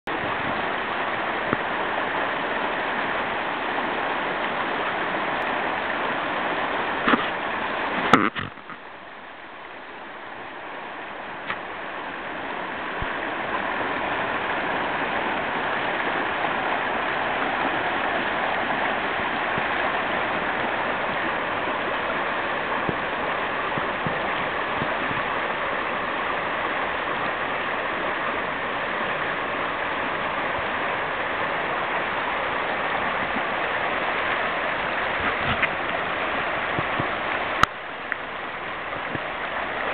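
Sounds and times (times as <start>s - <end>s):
river rapids rushing: 0.1s - 39.9s.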